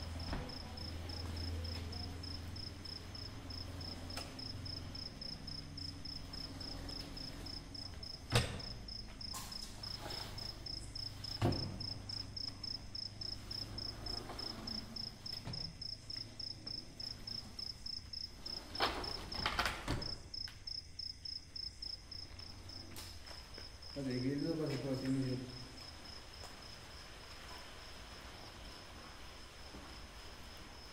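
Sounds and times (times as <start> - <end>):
cricket chirping: 0.0 - 30.9.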